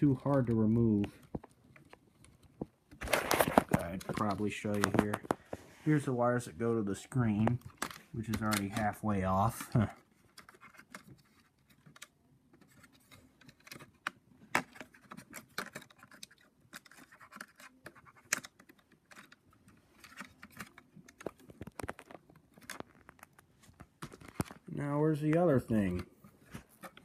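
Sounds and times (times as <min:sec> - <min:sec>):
laptop parts clicking and scratching: 0:00.0 - 0:05.7, 0:07.1 - 0:27.0.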